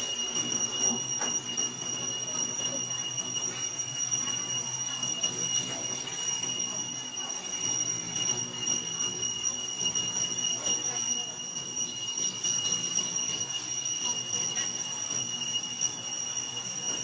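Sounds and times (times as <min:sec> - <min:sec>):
high-pitched two-tone whine: 0:00.0 - 0:17.0.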